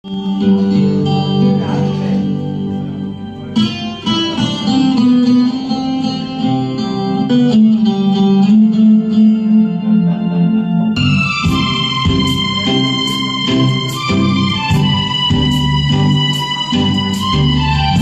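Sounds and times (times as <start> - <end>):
karaoke backing track with guitar: 0.0 - 18.0.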